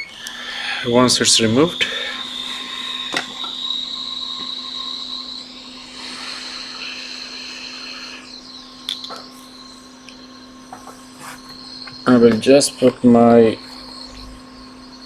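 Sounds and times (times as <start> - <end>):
hot air blower hissing: 0.0 - 15.0.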